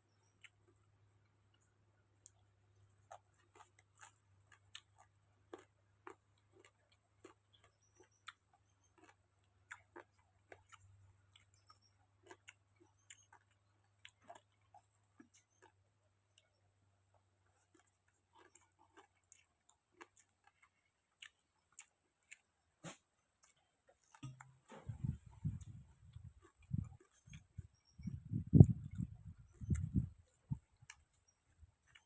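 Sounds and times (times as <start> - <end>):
person chewing food: 0.1 - 32.0.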